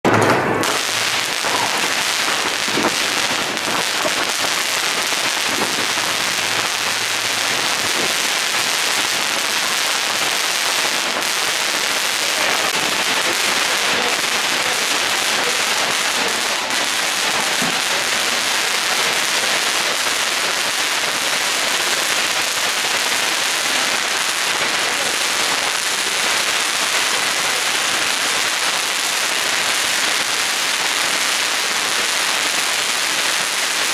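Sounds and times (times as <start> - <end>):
fireworks crackling: 0.0 - 33.9.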